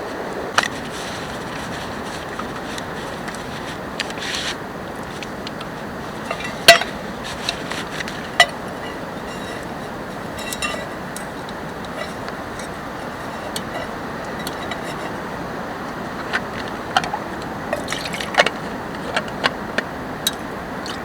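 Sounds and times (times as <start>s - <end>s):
rain hissing: 0.0s - 19.1s.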